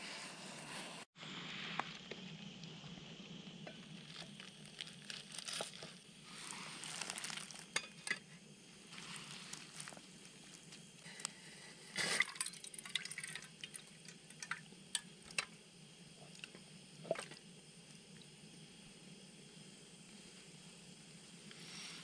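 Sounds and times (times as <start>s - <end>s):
gas burner hissing: 0.0s - 22.0s.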